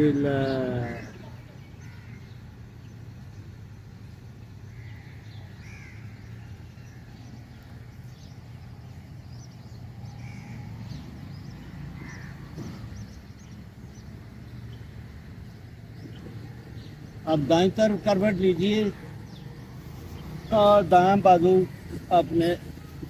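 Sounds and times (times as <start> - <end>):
birds calling: 0.0 - 23.0.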